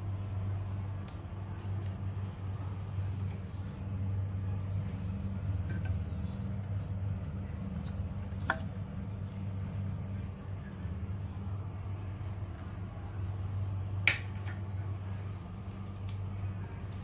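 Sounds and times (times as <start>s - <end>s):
steady low hum: 0.0s - 17.0s
soft squishing of raw meat: 0.1s - 17.0s.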